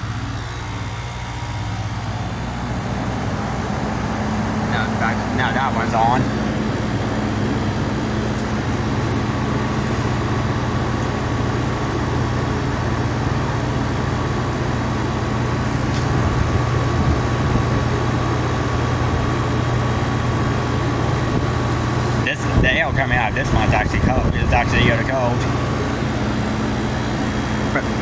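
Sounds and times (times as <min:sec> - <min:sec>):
faint high whine: 0:00.0 - 0:28.0
heat pump humming: 0:00.0 - 0:28.0.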